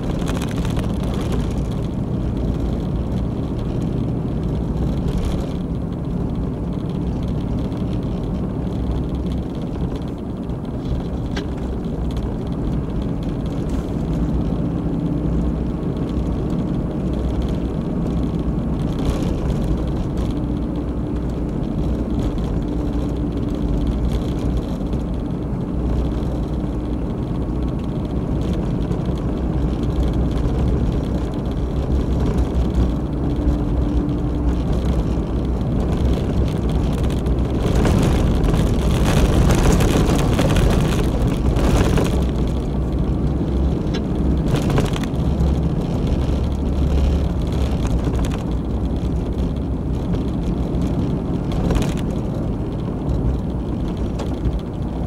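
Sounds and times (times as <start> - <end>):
car engine rumble: 0.0 - 55.0
tyre road noise: 0.0 - 55.0.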